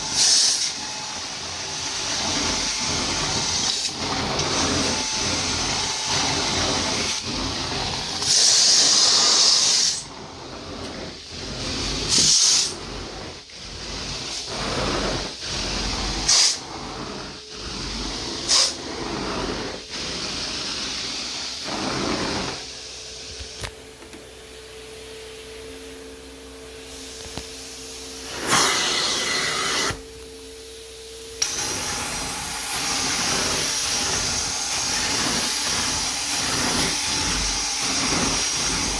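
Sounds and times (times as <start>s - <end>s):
extraction machine suction hiss: 0.0s - 13.0s, 13.6s - 22.7s, 28.2s - 30.0s, 31.4s - 38.9s.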